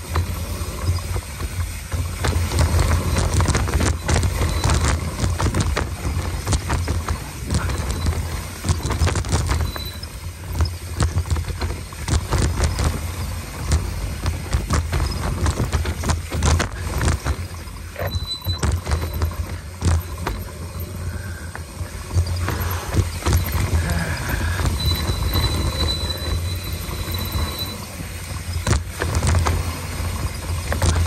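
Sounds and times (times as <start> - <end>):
bike rattling and clicking: 0.0 - 31.0
bike tyres rumbling over dirt: 0.0 - 31.0.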